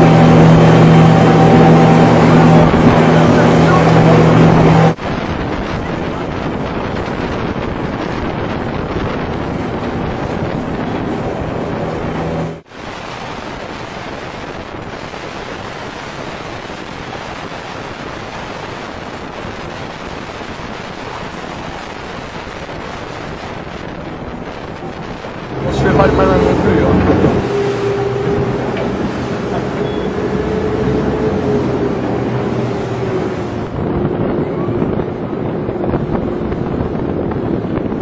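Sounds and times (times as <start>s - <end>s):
motorboat engine drone: 0.0s - 38.0s
rushing water: 0.0s - 38.0s
wind buffeting microphone: 0.0s - 38.0s.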